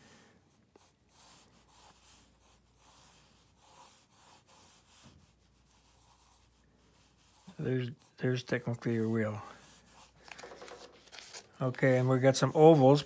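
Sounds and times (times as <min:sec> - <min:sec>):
pencil rubbing on paper: 0:00.5 - 0:13.0.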